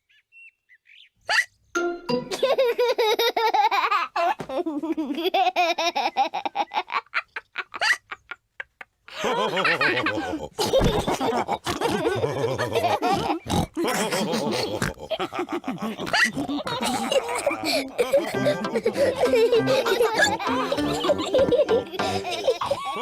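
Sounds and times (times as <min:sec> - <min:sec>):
cartoon pigs laughing and snorting: 0:02.2 - 0:23.0.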